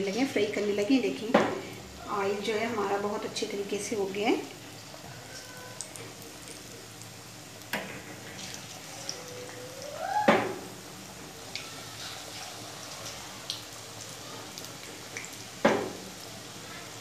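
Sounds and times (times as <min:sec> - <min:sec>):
deep-frying sizzle with crackles: 0:00.0 - 0:17.0.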